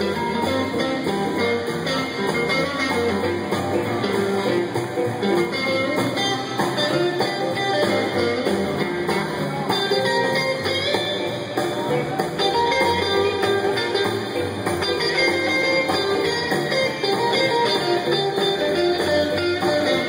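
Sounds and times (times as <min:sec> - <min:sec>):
electric guitar: 0:00.0 - 0:20.0
live blues band playing: 0:00.0 - 0:20.0.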